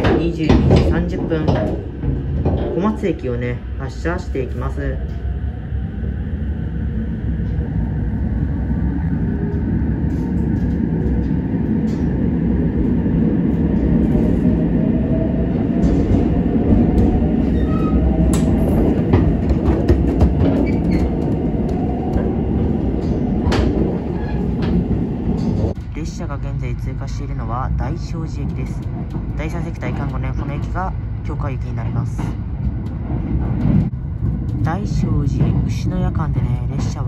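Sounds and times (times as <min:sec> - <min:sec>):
train wheels rumbling: 0:00.0 - 0:37.0.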